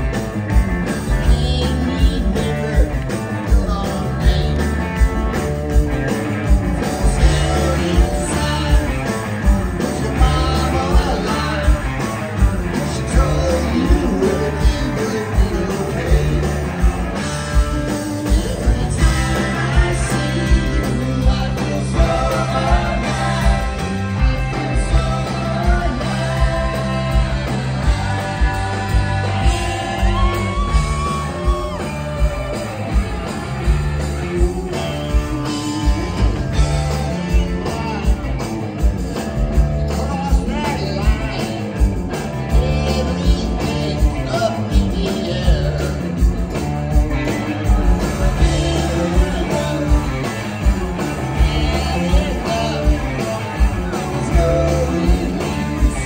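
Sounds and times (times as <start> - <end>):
live rock band playing: 0.0 - 56.0
person singing lead vocal: 0.9 - 5.4, 6.8 - 38.4, 39.8 - 46.4, 47.2 - 56.0.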